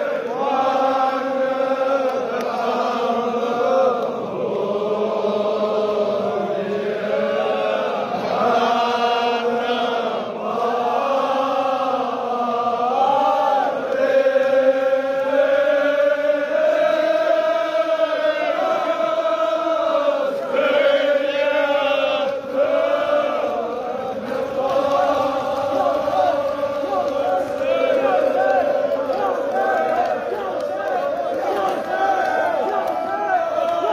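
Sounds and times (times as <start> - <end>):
men chanting: 0.0 - 33.9.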